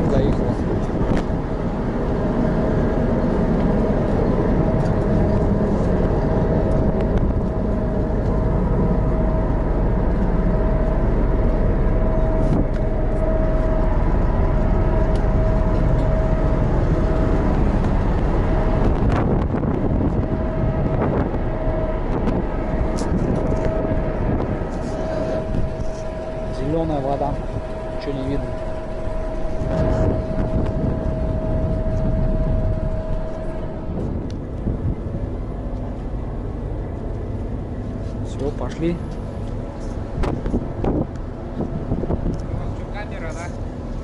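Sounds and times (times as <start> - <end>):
ship engines rumbling: 0.0 - 44.0
steady hum: 0.0 - 44.0.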